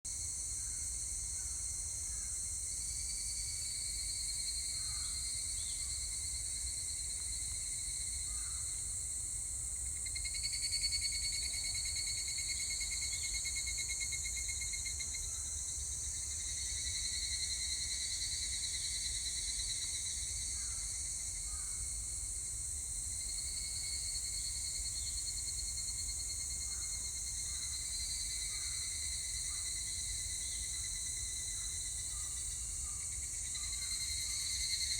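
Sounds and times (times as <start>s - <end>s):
steady high insect hiss: 0.1s - 34.9s
cicadas calling in chorus: 3.1s - 6.6s, 7.4s - 34.9s.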